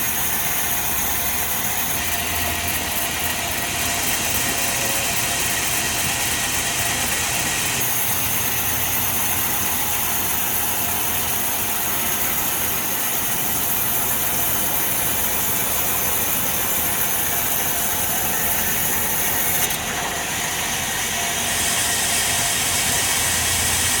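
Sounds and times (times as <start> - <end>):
sawmill machinery running: 0.0 - 24.0.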